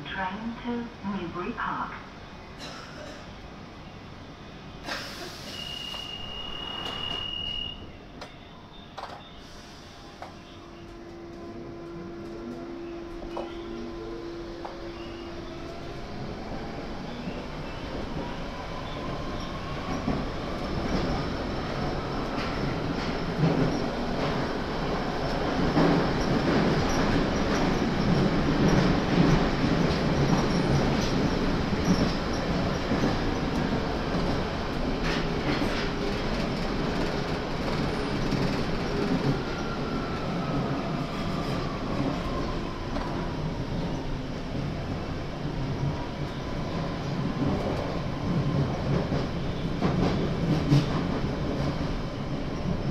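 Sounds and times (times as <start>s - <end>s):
train wheel and rail rumble: 0.0s - 52.9s.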